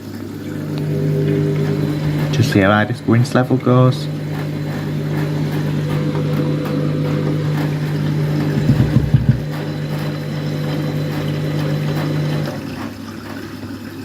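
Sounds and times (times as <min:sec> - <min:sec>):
running water: 0:00.0 - 0:14.0
washing machine hum: 0:00.0 - 0:14.0
low thumps: 0:00.6 - 0:12.2.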